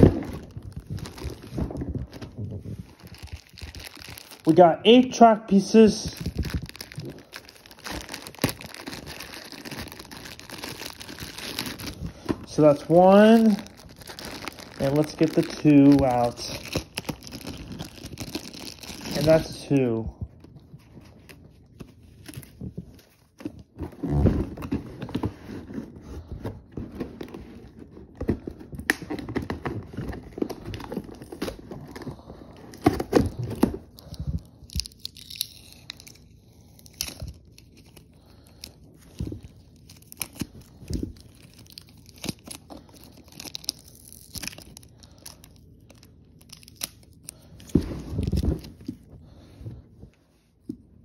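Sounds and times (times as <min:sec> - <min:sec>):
plastic packaging rustling and tearing: 0:00.0 - 0:49.6.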